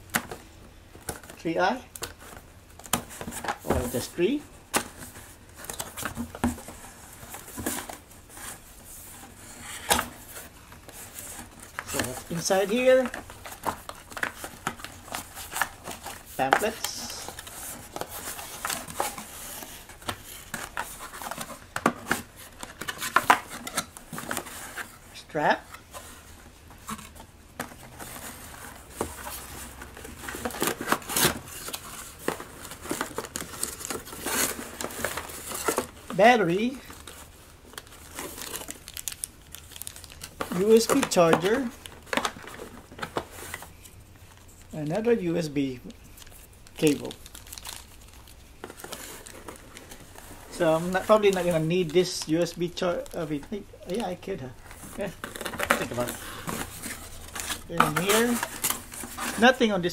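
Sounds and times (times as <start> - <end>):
cardboard rustling: 0.0 - 59.9.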